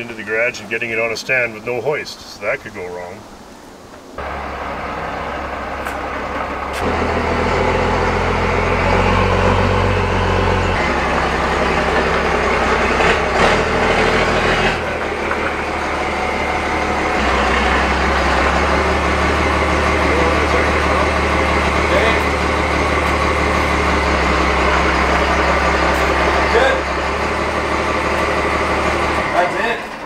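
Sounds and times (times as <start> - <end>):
pickup truck engine running: 4.2 - 30.0.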